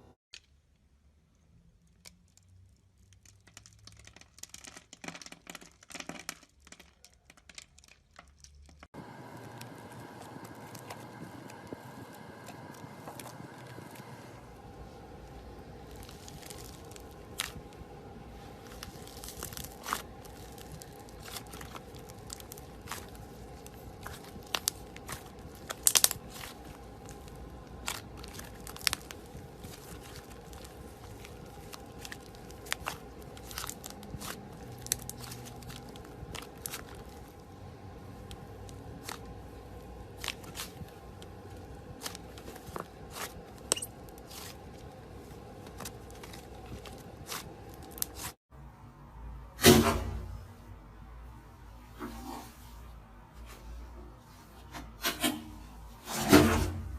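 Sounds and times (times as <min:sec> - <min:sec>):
slime crackling and popping: 0:01.7 - 0:48.4.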